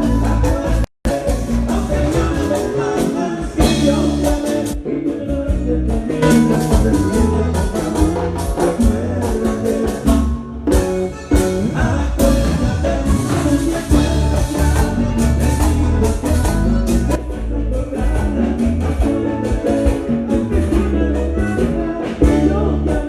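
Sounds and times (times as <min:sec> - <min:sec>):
live band through pa: 0:00.0 - 0:23.0
person singing: 0:00.0 - 0:23.0.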